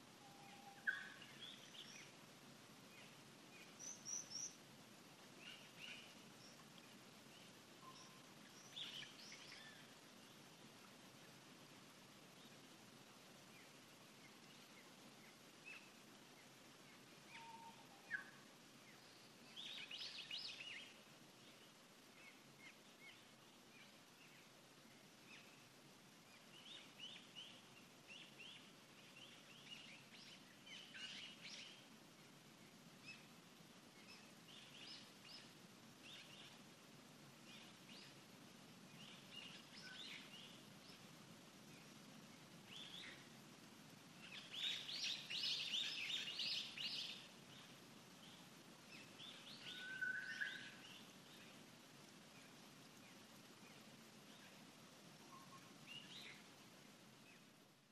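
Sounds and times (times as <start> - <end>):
faint background hiss: 0.0 - 57.9
small birds chirping: 0.0 - 57.9.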